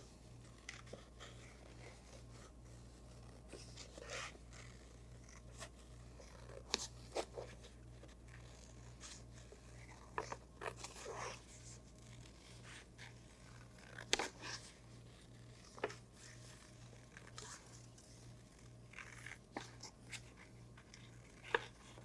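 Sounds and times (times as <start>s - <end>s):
faint paper rustling: 0.0s - 22.0s.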